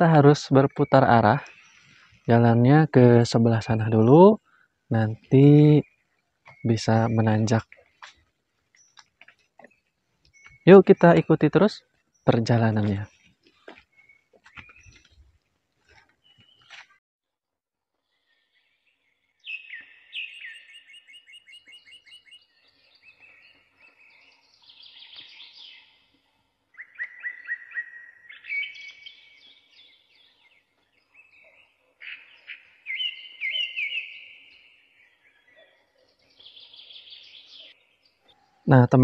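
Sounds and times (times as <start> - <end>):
songbirds singing: 0.0 - 17.0, 18.1 - 39.0.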